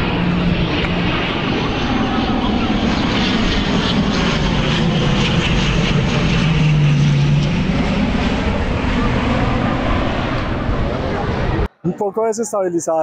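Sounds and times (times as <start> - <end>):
turboprop airliner landing: 0.0 - 12.8
low propeller tone: 0.0 - 12.9.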